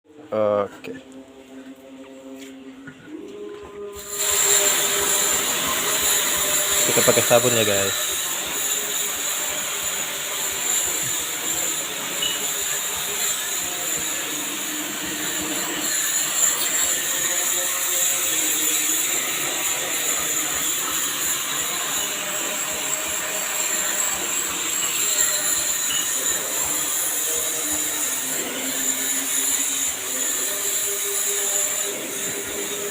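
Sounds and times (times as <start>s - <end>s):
pressure washer jet hissing: 4.0s - 32.9s.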